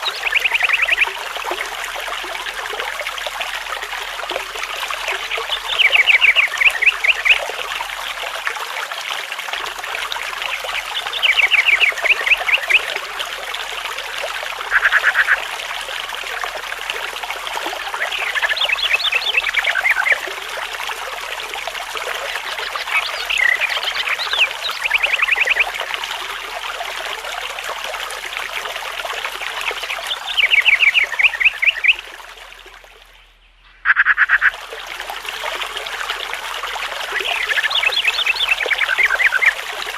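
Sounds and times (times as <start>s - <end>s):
frogs trilling: 0.0s - 8.5s, 9.6s - 27.3s, 28.2s - 32.4s, 33.7s - 39.9s
water trickling: 0.0s - 33.5s, 34.3s - 39.9s.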